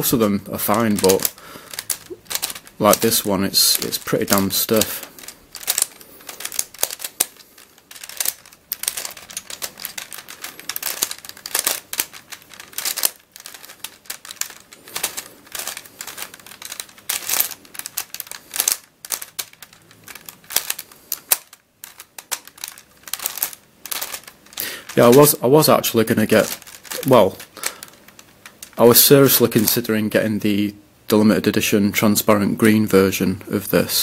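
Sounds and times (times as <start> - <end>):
plastic puzzle clicking: 0.0 - 29.9.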